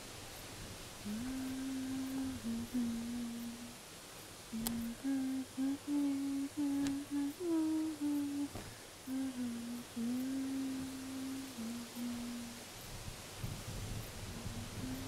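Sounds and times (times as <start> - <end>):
faint clicks: 0.3 - 15.0
woman humming a slow tune: 1.0 - 3.8, 4.5 - 15.0.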